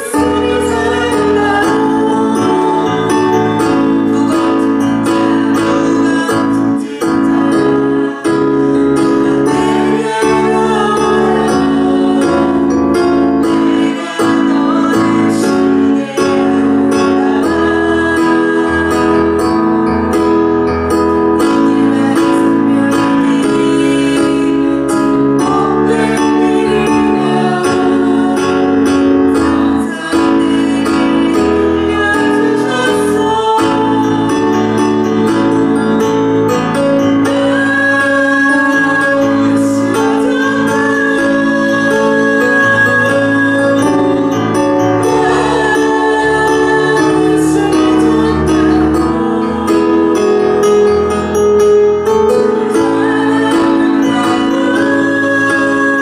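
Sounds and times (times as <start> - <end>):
guitar playing: 0.0 - 56.0
praise band worship music: 0.0 - 56.0.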